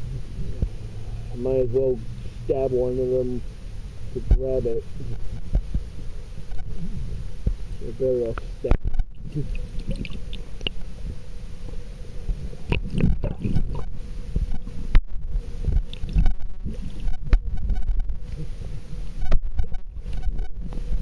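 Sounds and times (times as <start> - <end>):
underwater rumble of moving water: 0.0 - 21.0.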